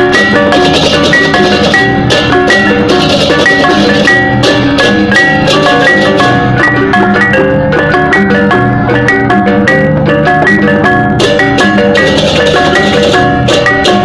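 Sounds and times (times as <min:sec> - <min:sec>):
metal-keyed mallet percussion: 0:00.0 - 0:14.0
steady drumming: 0:00.0 - 0:14.0.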